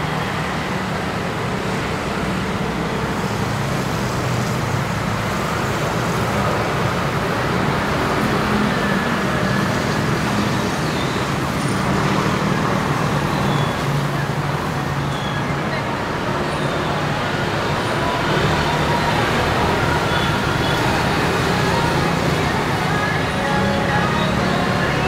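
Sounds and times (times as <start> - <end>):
road traffic noise: 0.0 - 25.0
vehicle engines humming: 0.0 - 25.0.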